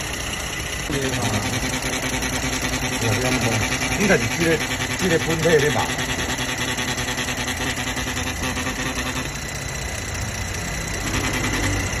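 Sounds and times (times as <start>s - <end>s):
car engine running: 0.0s - 12.0s
fast even engine ticking: 0.0s - 12.0s
high engine whine: 0.0s - 12.0s.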